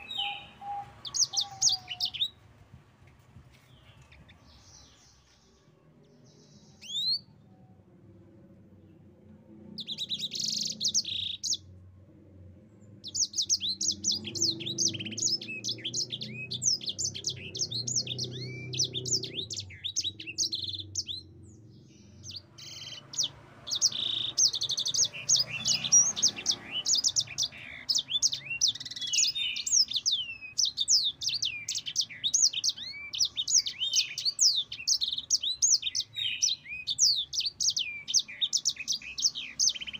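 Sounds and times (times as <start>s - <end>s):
finch singing: 0.0s - 2.4s, 6.2s - 7.4s, 9.8s - 11.6s, 13.0s - 39.9s.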